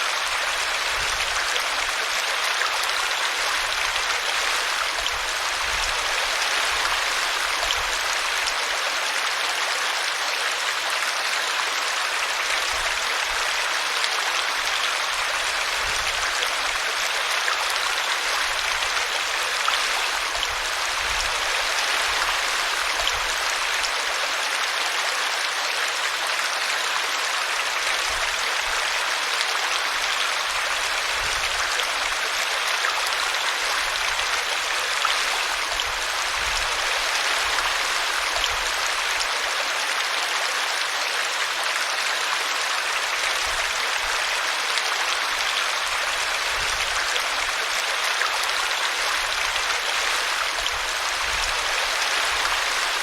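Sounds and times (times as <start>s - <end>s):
brook babbling: 0.0s - 53.0s.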